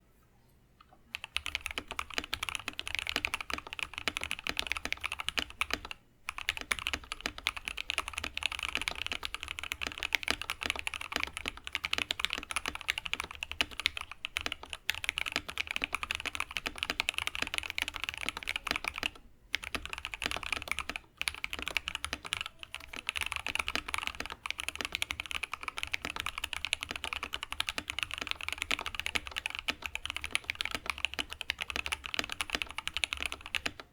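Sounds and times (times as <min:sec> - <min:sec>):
fast mechanical keyboard typing: 0:01.1 - 0:33.9.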